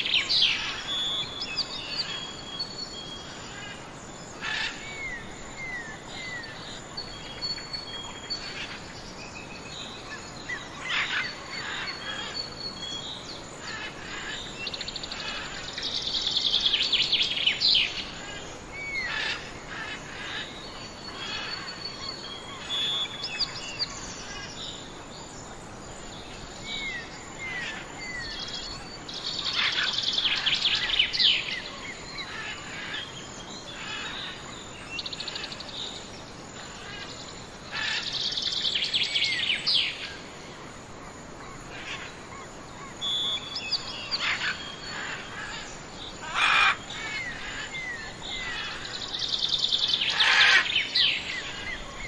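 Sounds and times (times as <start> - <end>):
faint background hiss: 0.0 - 52.0
songbirds singing: 0.0 - 52.0.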